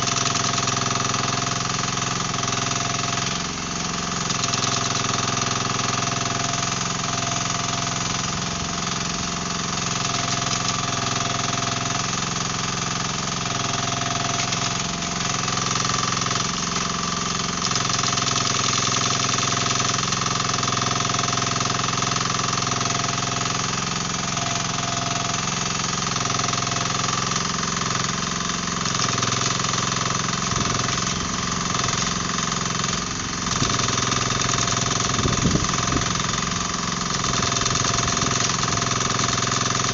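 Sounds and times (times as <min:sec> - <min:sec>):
diesel engine running: 0:00.0 - 0:39.9
hydraulic breaker hammering concrete: 0:00.0 - 0:39.9.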